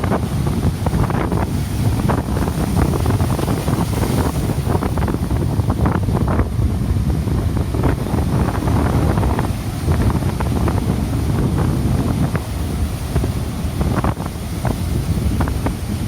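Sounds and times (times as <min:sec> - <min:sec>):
heavy surf rushing: 0:00.0 - 0:16.0
wind buffeting microphone: 0:00.0 - 0:16.0.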